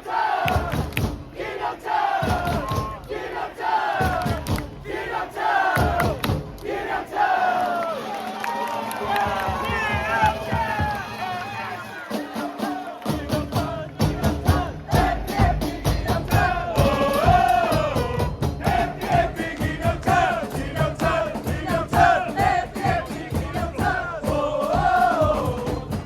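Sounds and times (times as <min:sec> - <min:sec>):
crowd singing a chant: 0:00.0 - 0:08.1, 0:09.0 - 0:26.0
steady drumbeat: 0:00.3 - 0:07.3, 0:08.8 - 0:26.0.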